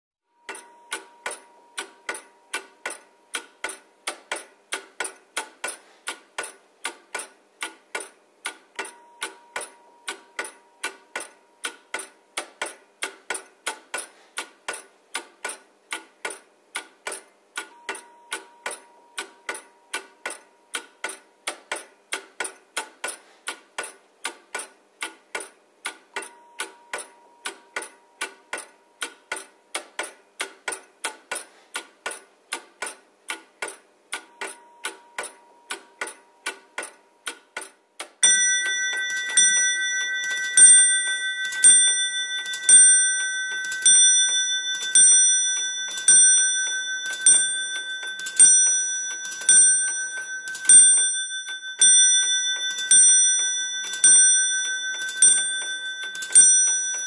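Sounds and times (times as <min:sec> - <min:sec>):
clock ticking: 0:00.5 - 0:57.0.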